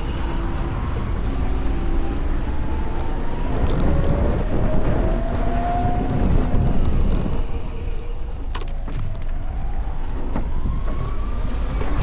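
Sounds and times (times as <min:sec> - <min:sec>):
road noise: 0:00.0 - 0:12.0
wind rumble on microphone: 0:00.0 - 0:12.0.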